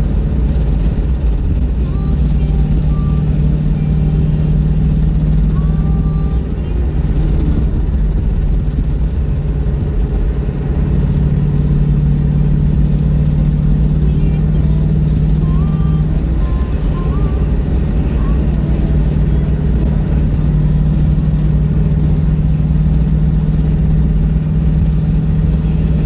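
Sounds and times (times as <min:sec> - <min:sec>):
car engine hum: 0:00.0 - 0:26.0
road rumble: 0:00.0 - 0:26.0.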